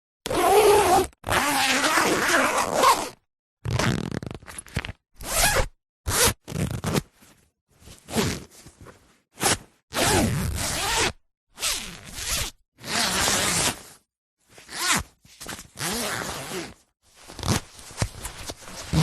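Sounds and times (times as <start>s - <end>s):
zippers zipping and unzipping: 0.2s - 7.2s, 7.9s - 8.6s, 9.4s - 19.0s.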